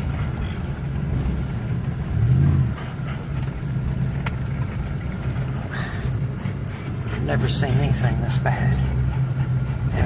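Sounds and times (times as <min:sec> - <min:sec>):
truck engine and road drone: 0:00.0 - 0:10.0.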